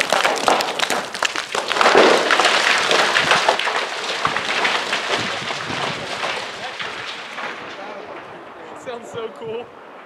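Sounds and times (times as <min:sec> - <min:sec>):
rocks clattering down cliff: 0:00.0 - 0:08.3.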